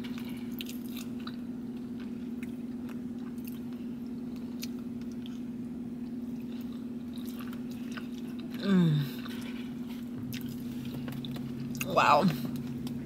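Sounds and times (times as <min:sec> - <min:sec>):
low hum: 0:00.0 - 0:13.0
person chewing food: 0:00.0 - 0:13.0.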